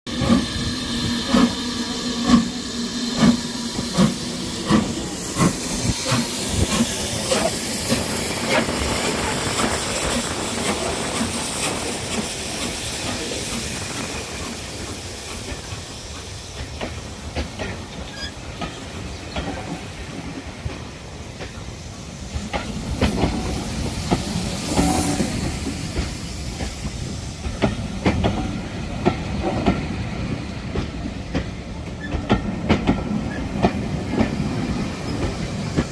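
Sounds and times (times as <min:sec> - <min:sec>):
steam hissing: 0:00.1 - 0:35.9
steam locomotive exhaust beats: 0:00.1 - 0:35.9.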